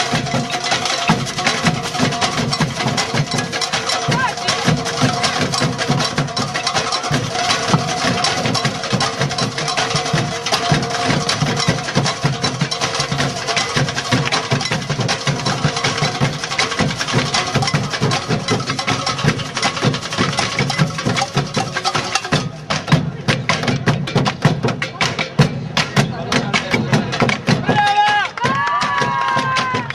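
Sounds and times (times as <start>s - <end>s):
percussion group drumming: 0.0s - 29.9s.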